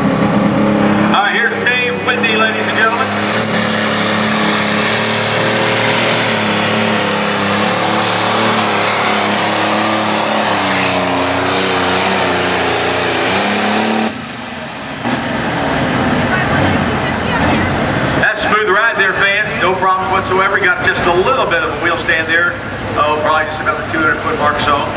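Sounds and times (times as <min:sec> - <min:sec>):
diesel tractor engine at full power: 0:00.0 - 0:24.9.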